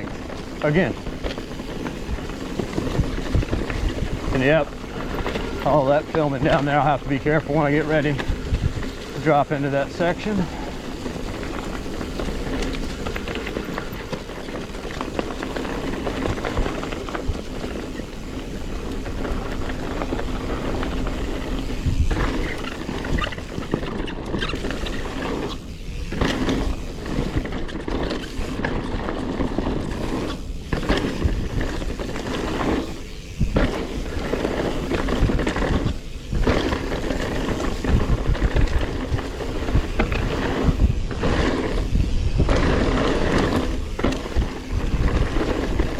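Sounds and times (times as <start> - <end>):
bike rattling and knocking: 0.0 - 45.9
tyres rolling over dirt and rock: 0.0 - 45.9.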